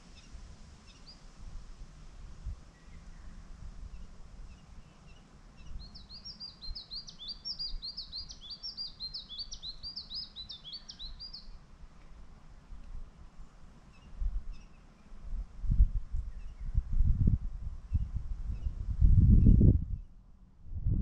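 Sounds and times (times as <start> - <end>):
songbird singing: 0.0 - 20.5.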